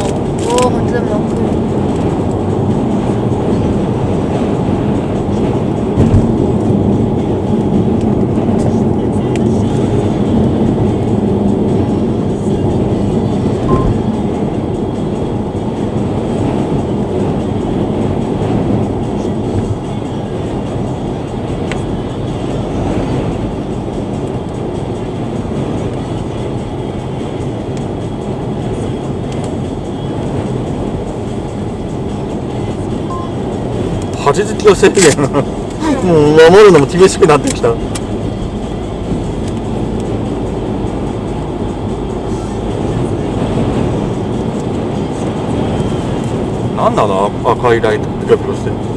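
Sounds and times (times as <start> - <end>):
deep tyre rumble: 0.0 - 48.9
road and wind noise in car: 0.0 - 48.9.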